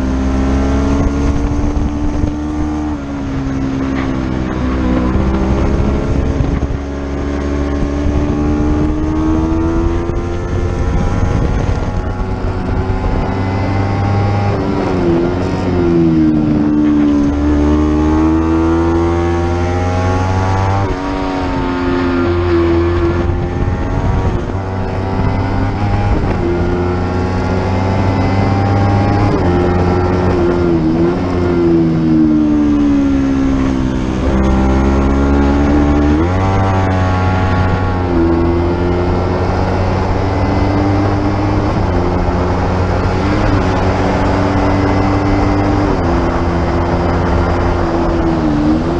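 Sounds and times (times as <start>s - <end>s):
racing motorcycle engine: 0.0s - 48.9s
wind rush: 0.0s - 48.9s.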